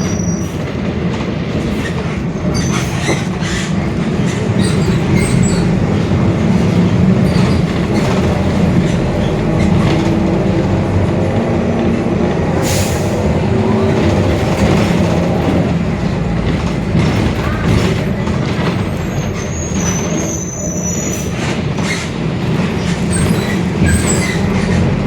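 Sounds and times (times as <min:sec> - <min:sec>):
bus engine rumbling: 0:00.0 - 0:25.0.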